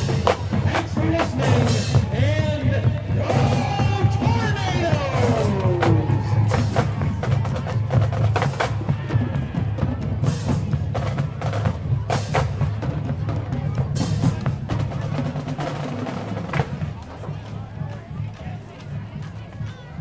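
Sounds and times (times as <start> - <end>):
bass drums: 0.0 - 18.4
snare drums: 0.0 - 20.0.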